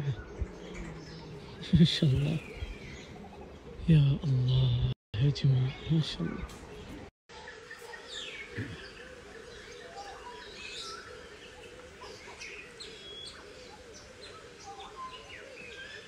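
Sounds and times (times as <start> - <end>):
small birds chirping and whistling: 0.0 - 16.0.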